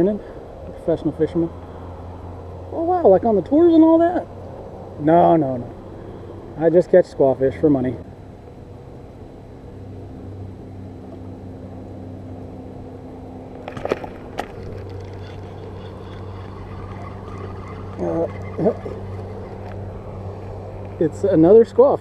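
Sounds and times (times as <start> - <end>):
passing traffic engine drone: 0.0 - 22.0.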